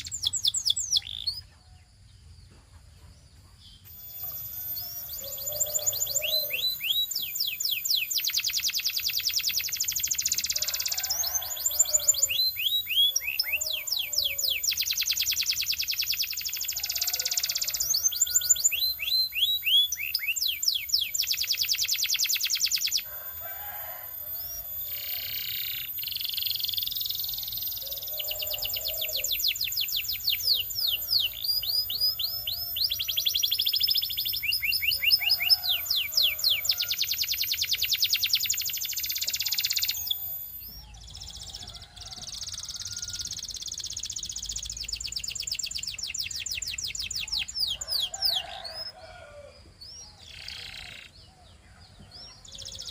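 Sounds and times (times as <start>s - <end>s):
canary singing rapid trills: 0.0s - 1.5s, 3.8s - 49.2s, 49.8s - 51.4s.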